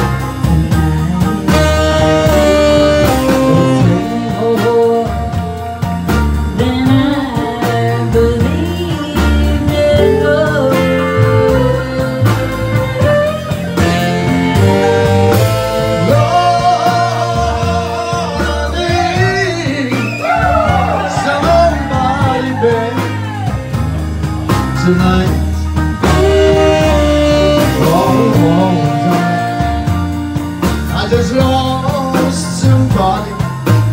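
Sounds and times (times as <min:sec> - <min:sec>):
live band music: 0:00.0 - 0:33.9
person singing: 0:00.4 - 0:05.6, 0:06.5 - 0:23.6, 0:24.6 - 0:29.8, 0:30.9 - 0:33.6.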